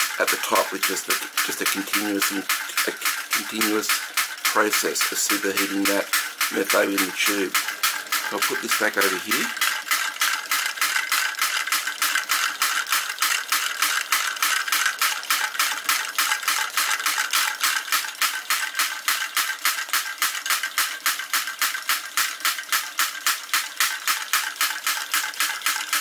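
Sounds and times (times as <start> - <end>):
fast mechanical clicking: 0.0 - 26.0.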